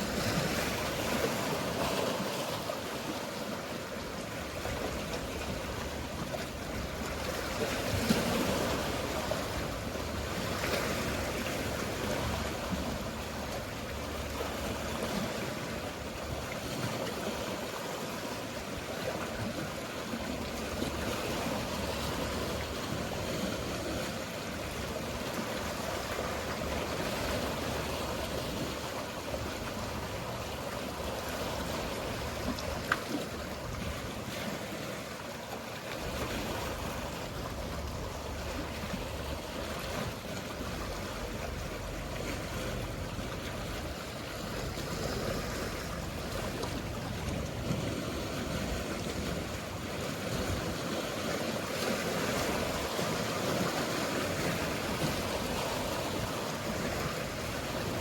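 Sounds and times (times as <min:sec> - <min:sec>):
low hum of boats: 0:00.0 - 0:58.0
sea waves washing: 0:00.0 - 0:58.0.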